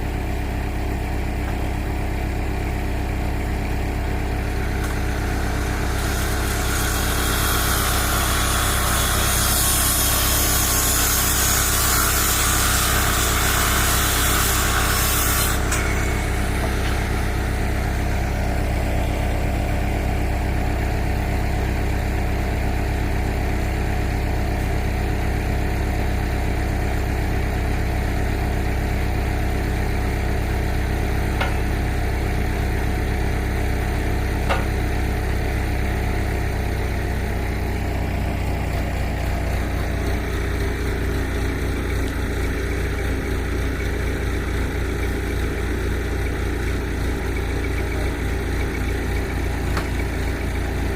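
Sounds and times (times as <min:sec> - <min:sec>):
backhoe engine idling: 0:00.0 - 0:50.9.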